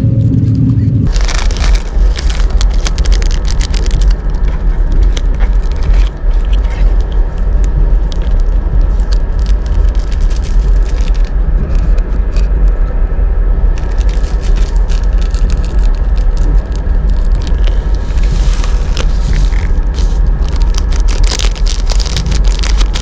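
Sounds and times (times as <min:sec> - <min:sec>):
passenger train rumble: 0:00.0 - 0:23.0.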